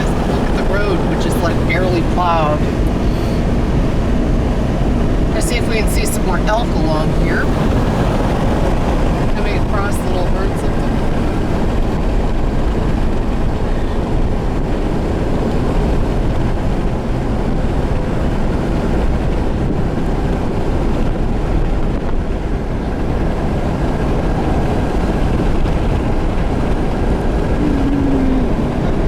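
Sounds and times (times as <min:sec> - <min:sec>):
car road noise on snow: 0:00.0 - 0:29.0.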